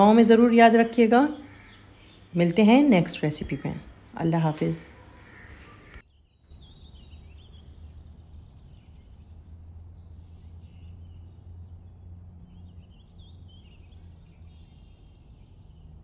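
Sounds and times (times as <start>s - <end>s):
bird chirps and twitters: 0.0s - 16.0s.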